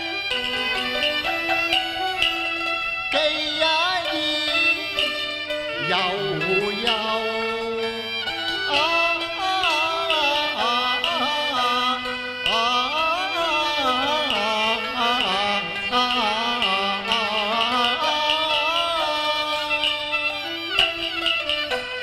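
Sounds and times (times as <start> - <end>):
bowed string melody: 0.0 - 22.0.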